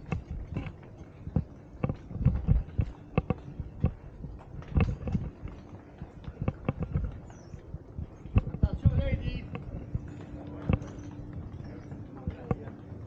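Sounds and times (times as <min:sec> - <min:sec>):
footsteps knocking: 0:00.0 - 0:12.9.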